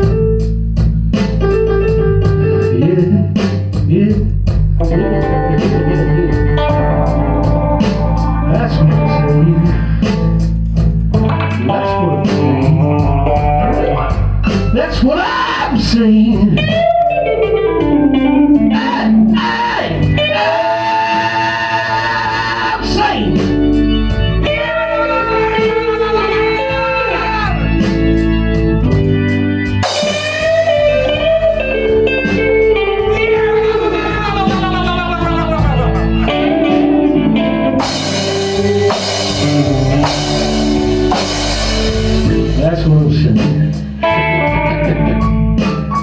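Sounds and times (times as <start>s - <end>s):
electric guitar bent notes: 0.0s - 15.0s, 22.6s - 46.0s
blues-rock band playing live: 0.0s - 46.0s.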